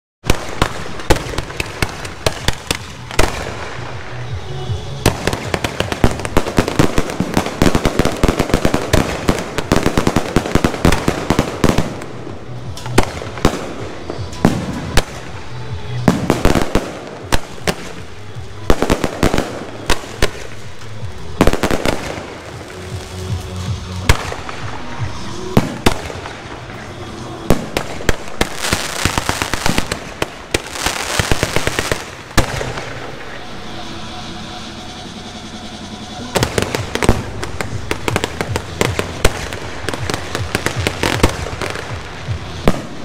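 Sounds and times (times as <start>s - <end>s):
fireworks bangs and crackling: 0.2s - 43.0s.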